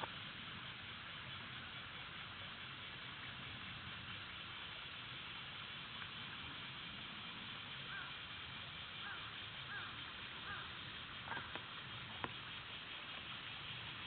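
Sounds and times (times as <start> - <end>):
cicadas shrilling: 0.0 - 14.0.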